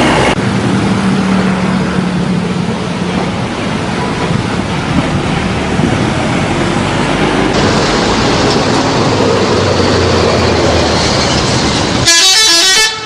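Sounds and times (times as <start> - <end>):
large vehicle passing: 0.0 - 12.1.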